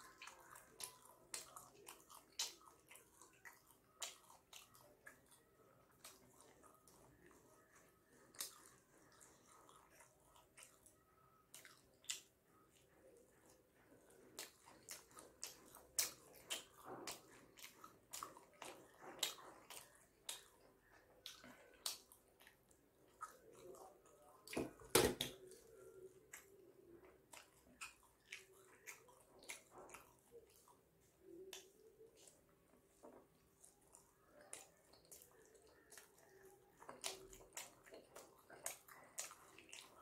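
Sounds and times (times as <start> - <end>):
wet chewing and lip-smacking: 0.0 - 40.0.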